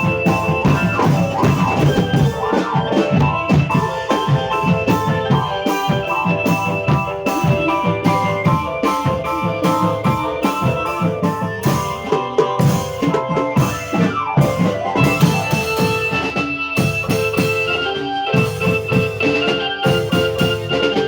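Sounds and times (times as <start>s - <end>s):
busy drum beat: 0.0s - 21.0s
melodic instruments: 0.0s - 21.0s.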